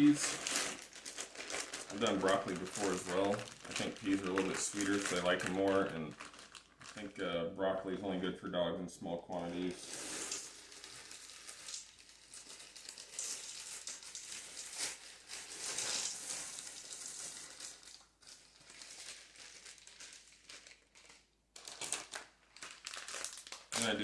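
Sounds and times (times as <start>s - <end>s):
frozen peas pouring into pot: 0.0s - 7.0s, 9.4s - 24.0s
plastic bag crinkling: 0.0s - 7.2s, 9.4s - 24.0s.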